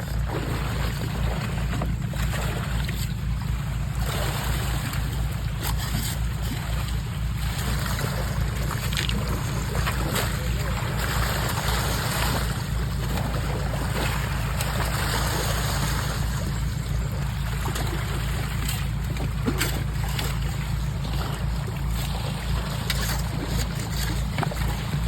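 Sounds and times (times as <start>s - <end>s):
flowing water rushing: 0.0s - 25.0s
low rumble: 0.0s - 25.0s.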